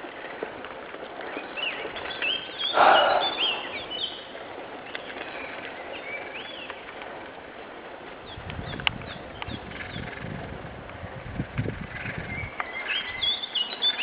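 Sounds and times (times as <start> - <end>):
songbirds singing: 0.0 - 7.0, 8.2 - 10.4, 11.4 - 14.0.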